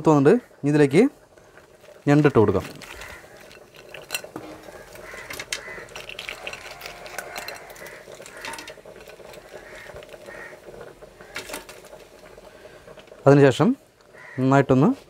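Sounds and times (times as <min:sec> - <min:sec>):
crab shells clicking in pot: 0:01.3 - 0:14.4.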